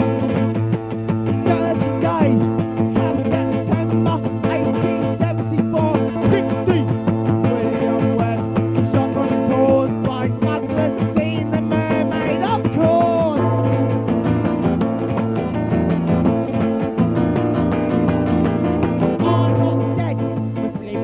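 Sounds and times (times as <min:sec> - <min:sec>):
band playing guitar and keyboard: 0:00.0 - 0:21.0.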